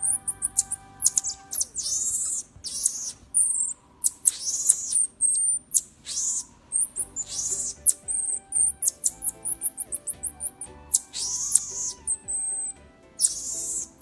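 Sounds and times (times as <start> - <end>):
baby marmosets chirping: 0.0 - 14.0.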